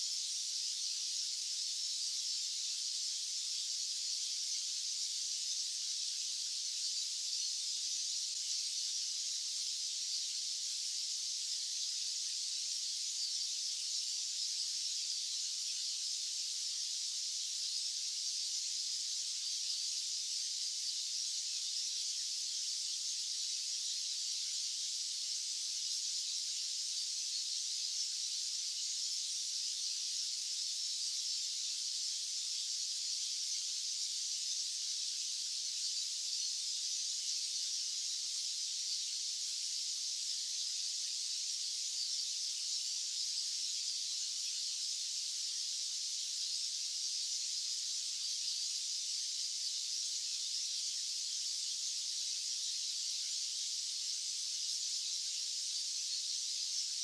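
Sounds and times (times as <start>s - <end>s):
high-pitched white noise hiss: 0.0s - 57.0s.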